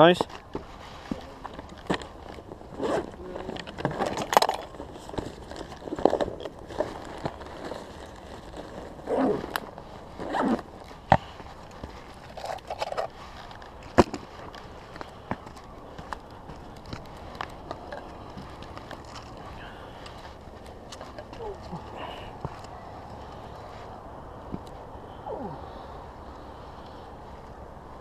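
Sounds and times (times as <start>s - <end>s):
fishing gear scraping and rustling: 0.2s - 27.6s.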